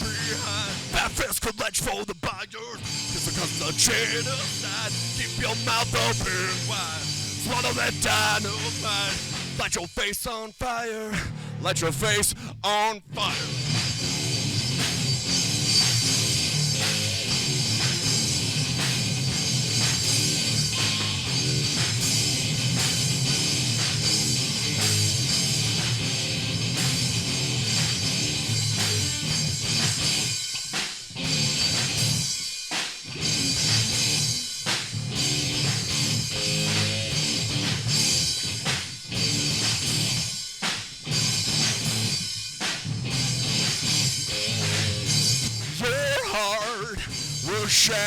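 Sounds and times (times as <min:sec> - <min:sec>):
live rock band playing: 0:00.0 - 0:01.2, 0:02.8 - 0:09.7, 0:13.3 - 0:48.0.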